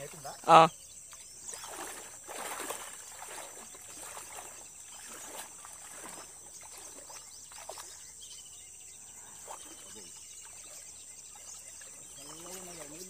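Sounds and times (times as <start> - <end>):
legs wading through water: 0.0 - 13.0.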